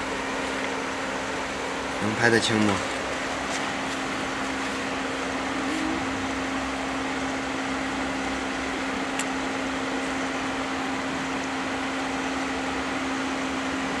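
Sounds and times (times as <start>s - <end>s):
fan noise with low hum: 0.0s - 14.0s.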